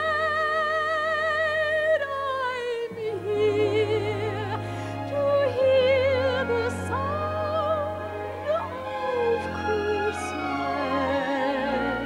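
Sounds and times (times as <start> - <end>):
slow orchestral music: 0.0 - 12.0.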